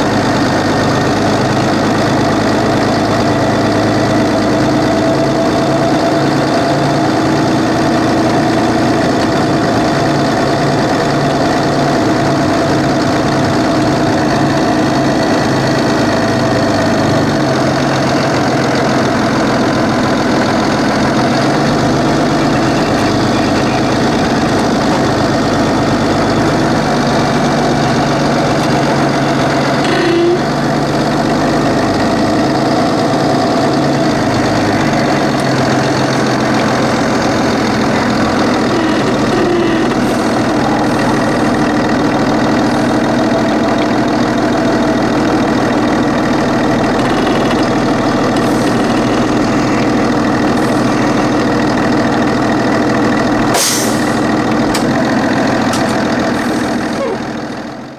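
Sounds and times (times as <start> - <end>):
bus engine running: 0.0 - 57.9.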